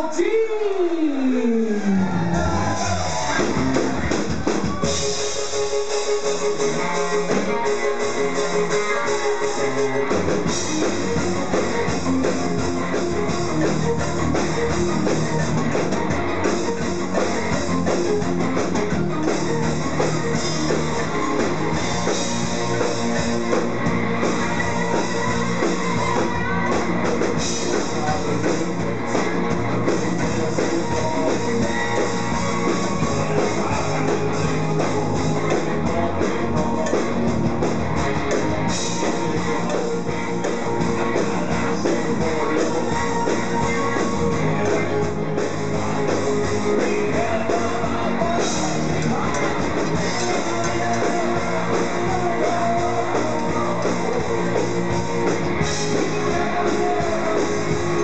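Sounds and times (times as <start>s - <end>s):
drums: 0.0s - 58.0s
electric guitars: 0.8s - 58.0s.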